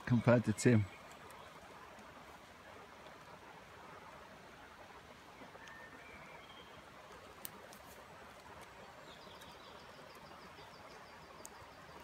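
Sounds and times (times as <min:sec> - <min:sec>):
soft steady hiss: 0:00.0 - 0:12.0
songbird chirping: 0:00.0 - 0:12.0.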